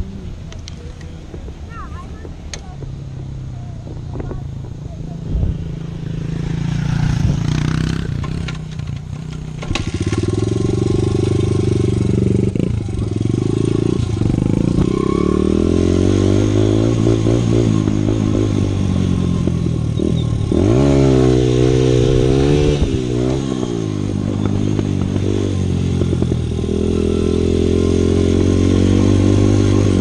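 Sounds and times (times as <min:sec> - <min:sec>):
dirt bike engine revving: 0:05.4 - 0:30.0.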